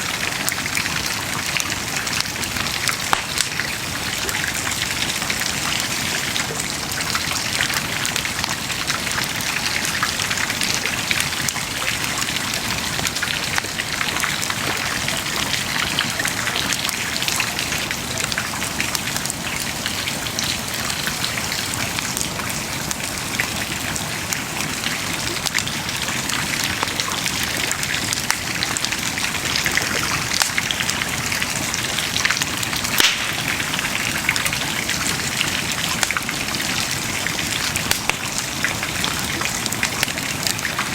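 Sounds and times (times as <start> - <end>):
bonfire crackling and popping: 0.0 - 19.4, 25.5 - 40.9.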